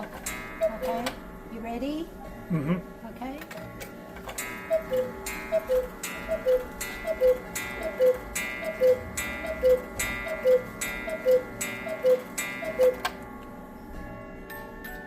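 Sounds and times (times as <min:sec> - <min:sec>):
cuckoo clock call: 0:00.0 - 0:02.0, 0:03.4 - 0:14.0
clocks ticking: 0:00.0 - 0:02.2, 0:02.9 - 0:13.6.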